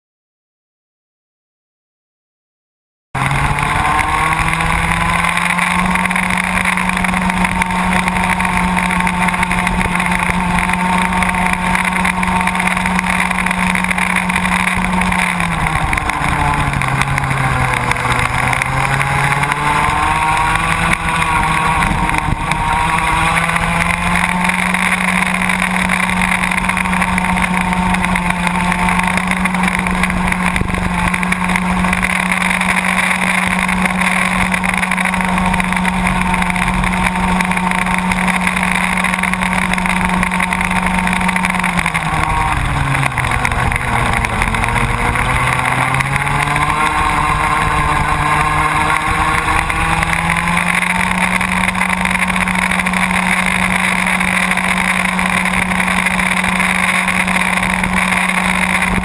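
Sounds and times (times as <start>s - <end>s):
kart engine buzzing: 3.2s - 59.0s
other kart engines buzzing: 3.2s - 59.0s.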